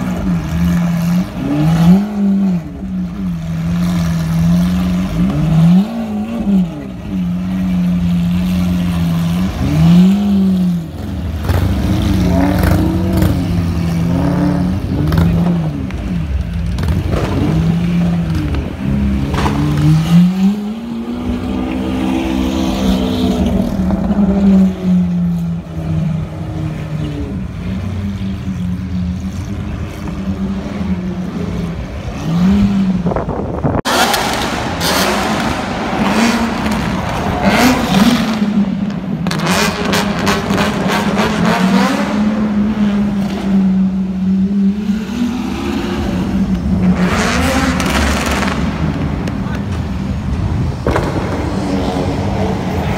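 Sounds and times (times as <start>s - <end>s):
sports car engine revving: 0.0s - 52.9s.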